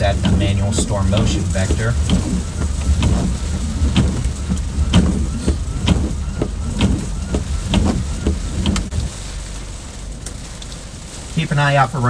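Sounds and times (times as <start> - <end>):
low rumble: 0.0 - 12.0
rain and wind on a vehicle: 0.0 - 12.0
windshield wipers sweeping: 0.0 - 12.0.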